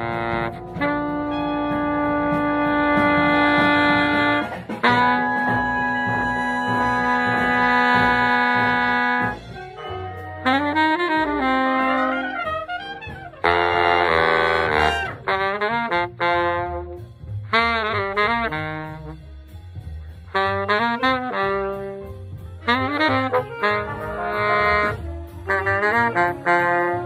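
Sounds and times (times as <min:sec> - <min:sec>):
saxophone melody: 0:00.0 - 0:19.3, 0:20.3 - 0:27.0.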